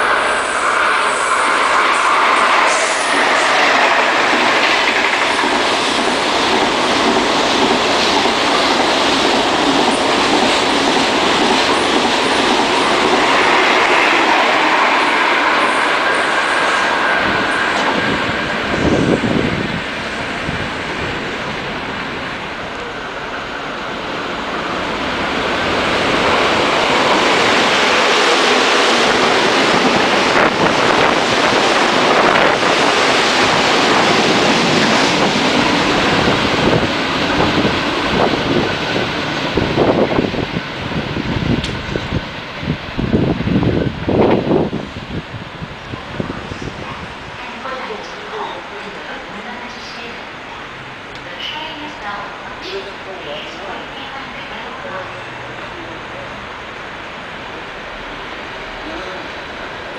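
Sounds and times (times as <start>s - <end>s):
high-speed train passing: 0.0s - 59.9s.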